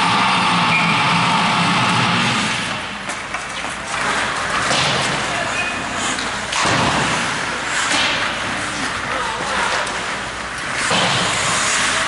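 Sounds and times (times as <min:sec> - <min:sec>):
hockey sticks working puck: 0:01.8 - 0:12.0
skates scraping ice: 0:01.8 - 0:12.0.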